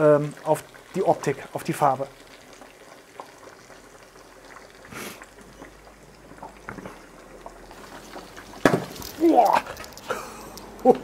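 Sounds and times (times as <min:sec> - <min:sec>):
meat deep-frying in oil: 0:00.0 - 0:11.0
oil crackling and popping: 0:00.0 - 0:11.0.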